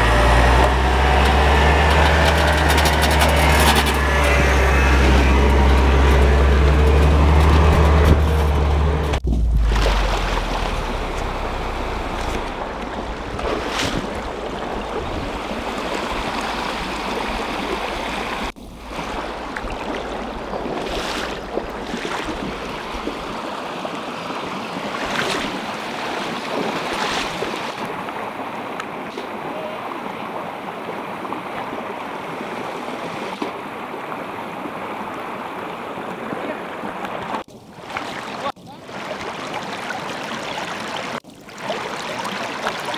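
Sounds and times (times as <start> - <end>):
stream rushing water: 0.0 - 42.9.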